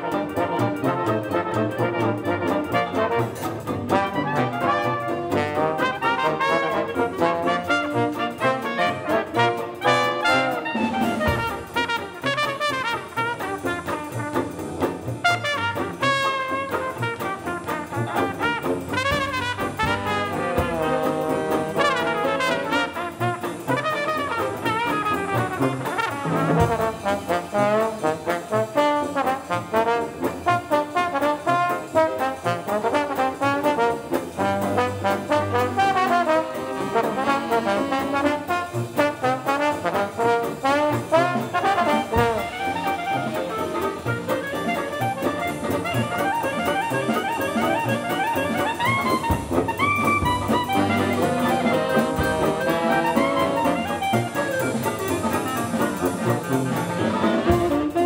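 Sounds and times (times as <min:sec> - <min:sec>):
jazzy brass music: 0:00.0 - 0:58.0.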